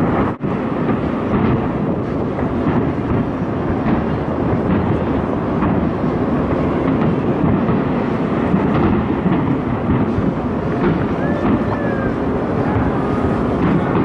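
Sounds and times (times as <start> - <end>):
fireworks booms and crackle: 0.0 - 14.0.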